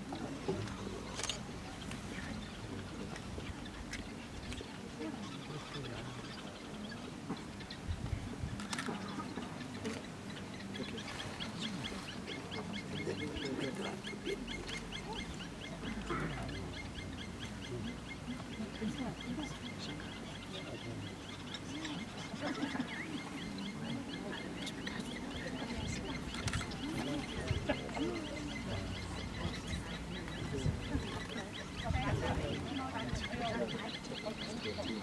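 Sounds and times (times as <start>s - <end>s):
birds chirping: 0.0s - 35.0s
lower bird calls: 0.0s - 35.0s.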